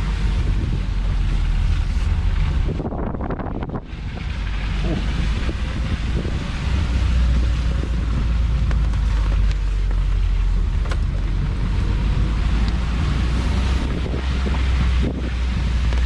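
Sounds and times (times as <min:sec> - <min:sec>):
wind buffeting microphone: 0:00.0 - 0:09.6, 0:11.0 - 0:16.0
car engine and road rumble: 0:00.0 - 0:16.0.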